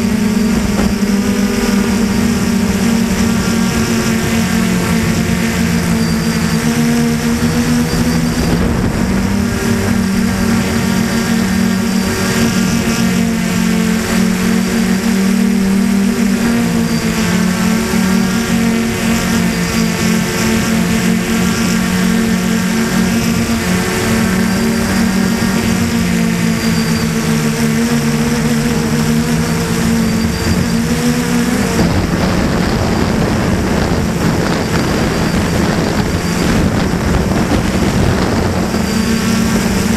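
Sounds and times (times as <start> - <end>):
quadcopter propellers buzzing: 0.0 - 39.9
wind noise: 0.0 - 39.9.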